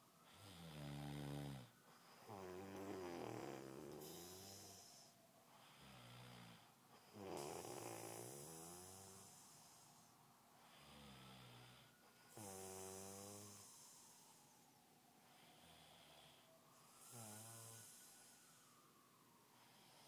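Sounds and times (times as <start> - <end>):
man snoring: 0.2 - 10.0, 10.6 - 14.6, 15.4 - 18.6.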